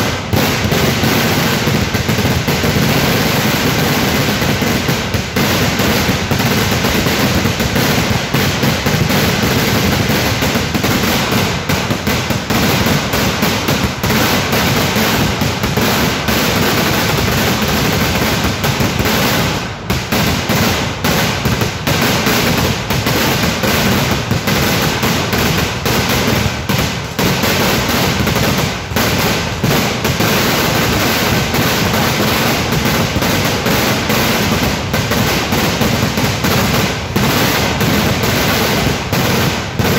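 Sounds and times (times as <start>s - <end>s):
loud firecracker bangs: 0.0s - 39.9s.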